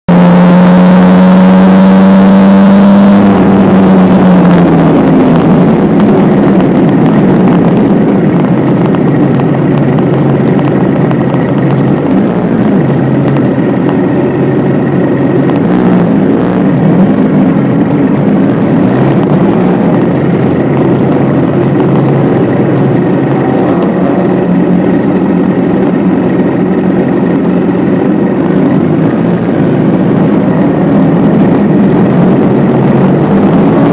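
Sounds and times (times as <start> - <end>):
road noise: 0.0 - 33.9
motorcycle engine running: 0.1 - 33.9
rushing wind: 0.1 - 33.9.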